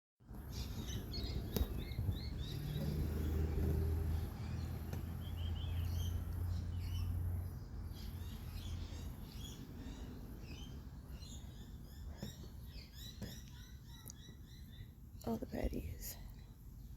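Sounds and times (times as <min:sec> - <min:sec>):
birds chirping: 0:00.2 - 0:16.9.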